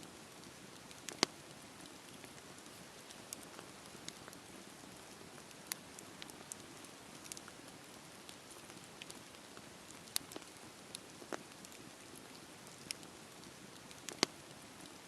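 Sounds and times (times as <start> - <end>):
campfire crackling: 0.0 - 15.0
burning wood popping: 0.4 - 14.4.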